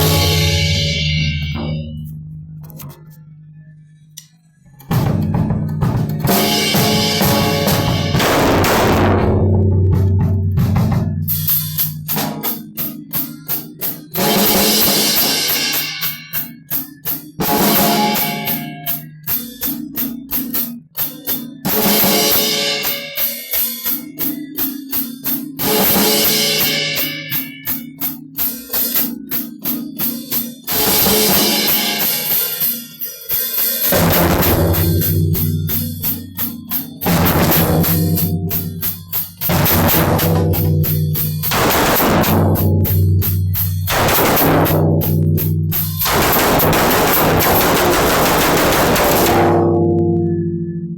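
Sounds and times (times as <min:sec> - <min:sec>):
cymbal crash: 0:00.0 - 0:02.1, 0:04.9 - 0:50.3
rapid drum strikes: 0:00.0 - 0:02.1, 0:04.8 - 0:49.9.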